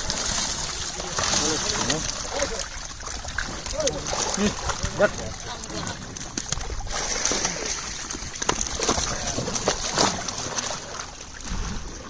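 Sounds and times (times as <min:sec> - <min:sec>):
sharp splashes of fish: 0:00.0 - 0:12.0
water splashing and sloshing: 0:00.0 - 0:12.0.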